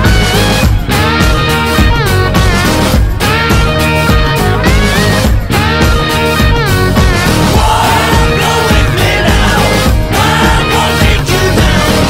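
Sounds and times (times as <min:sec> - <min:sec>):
loud rock music with guitar: 0:00.0 - 0:12.0.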